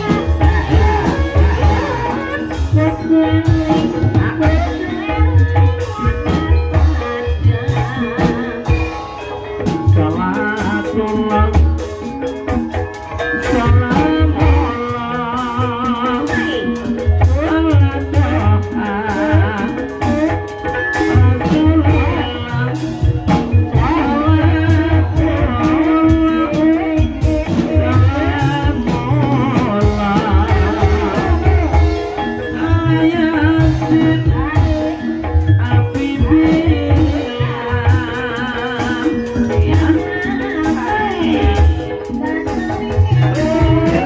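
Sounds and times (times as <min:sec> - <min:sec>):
drums: 0:00.0 - 0:44.0
gamelan ensemble: 0:00.0 - 0:44.0
person singing wavering melody: 0:00.0 - 0:44.0.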